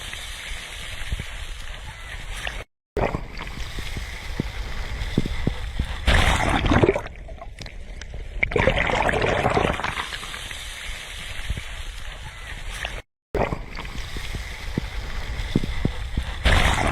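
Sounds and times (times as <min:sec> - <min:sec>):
sea waves washing onto shore: 0:00.0 - 0:07.0, 0:09.4 - 0:13.0, 0:13.6 - 0:16.9.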